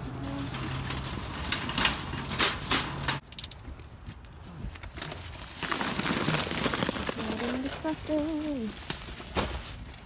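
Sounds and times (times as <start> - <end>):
shopping cart rattling on pavement: 0.0 - 3.2, 5.0 - 10.0.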